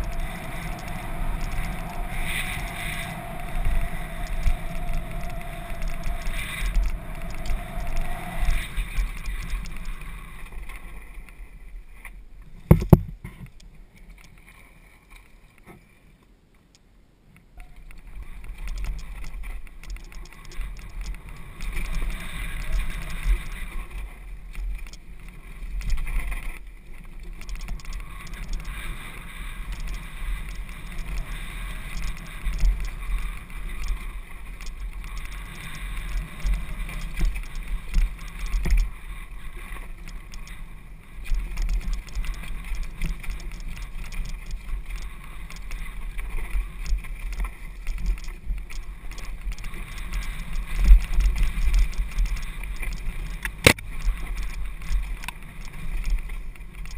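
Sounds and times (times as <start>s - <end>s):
mountain bike rattling over dirt trail: 0.0s - 11.6s, 17.6s - 56.9s.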